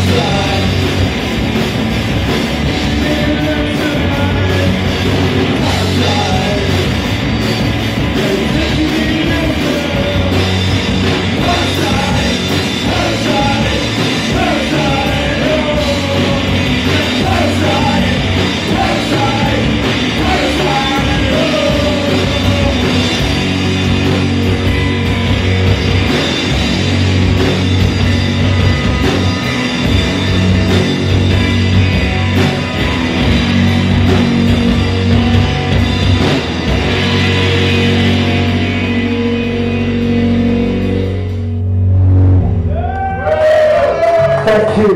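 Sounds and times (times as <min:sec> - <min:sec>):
live rock band playing: 0:00.0 - 0:44.9.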